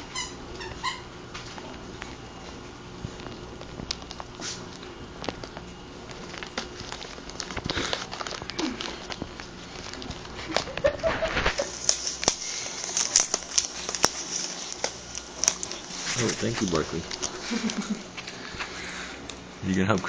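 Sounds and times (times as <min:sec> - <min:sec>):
wrapping paper crinkling and tearing: 0:03.0 - 0:19.3.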